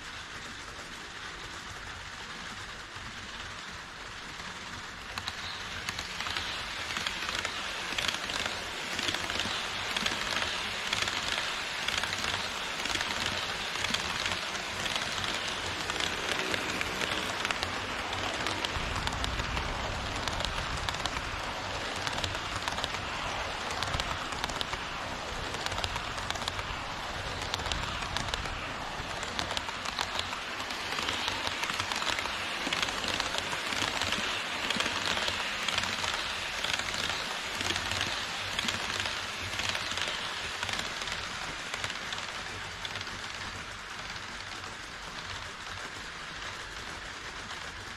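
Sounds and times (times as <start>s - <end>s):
model train wheels clattering: 0.0s - 47.9s.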